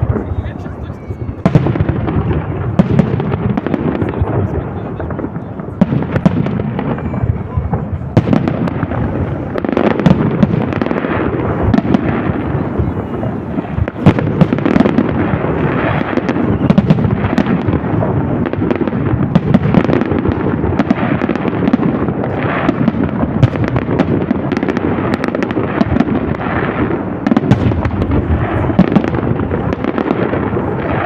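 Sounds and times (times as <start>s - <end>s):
fireworks bursts and crackles: 0.0s - 31.0s.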